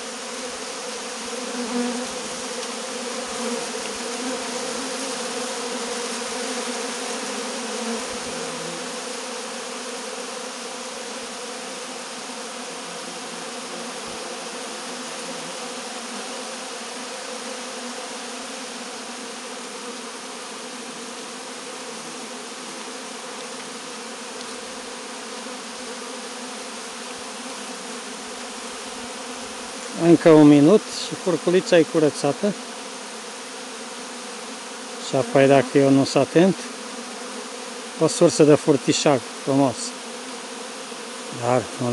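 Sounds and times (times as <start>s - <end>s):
honeybees buzzing: 0.0s - 41.9s.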